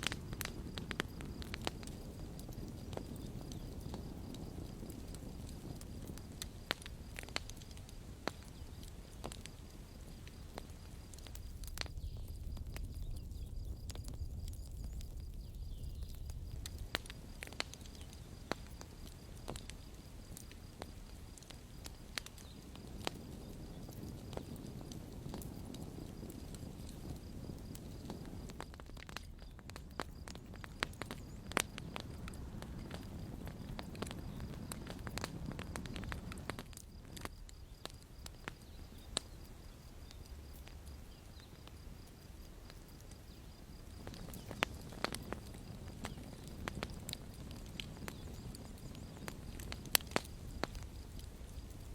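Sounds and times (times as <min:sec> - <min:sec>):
campfire crackling: 0:00.0 - 0:51.9
low fire rumble: 0:00.0 - 0:51.9
sharp fire pops: 0:00.0 - 0:51.9.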